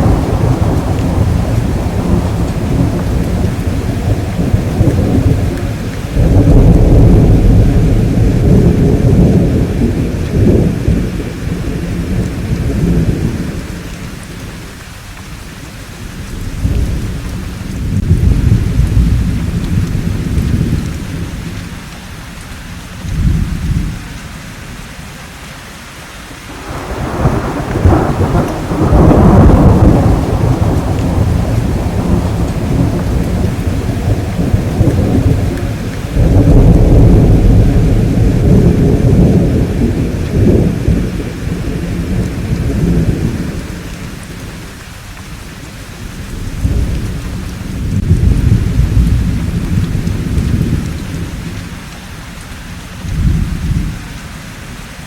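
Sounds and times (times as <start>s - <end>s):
rolling thunder: 0.0s - 14.7s, 16.0s - 21.8s, 23.1s - 24.1s, 26.3s - 45.0s, 45.6s - 52.0s, 53.0s - 54.0s
steady rain: 0.0s - 55.0s.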